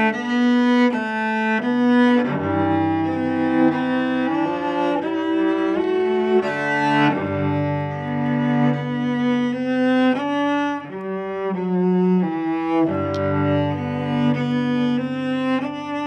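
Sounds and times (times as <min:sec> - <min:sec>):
bowed cello melody: 0:00.0 - 0:16.0.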